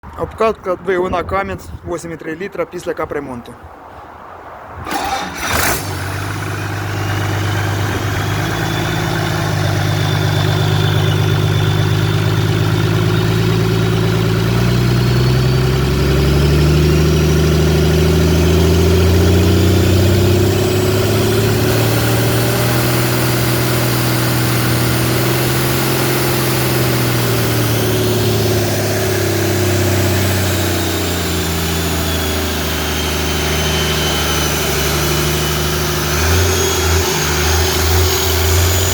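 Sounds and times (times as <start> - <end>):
diesel tractor engine idling: 4.8 - 38.9
engine revving: 4.8 - 38.9.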